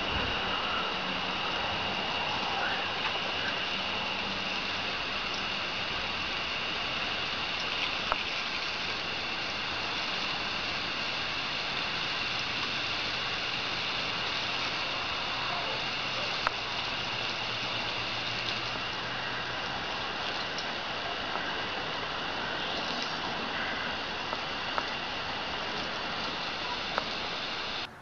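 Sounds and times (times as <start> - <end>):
hose water pattering on grass: 0.0 - 28.0.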